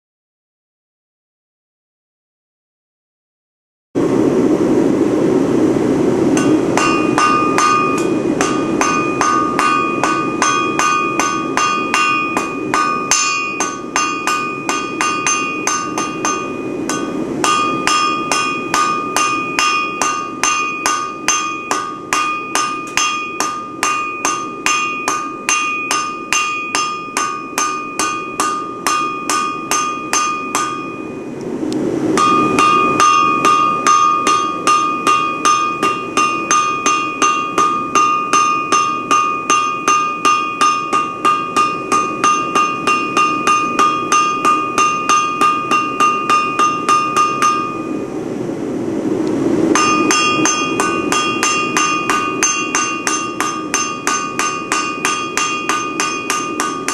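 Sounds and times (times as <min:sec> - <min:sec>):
low rushing noise: 0:04.0 - 0:56.9
hammer striking steel on anvil: 0:06.3 - 0:31.4, 0:32.1 - 0:48.2, 0:49.7 - 0:56.9.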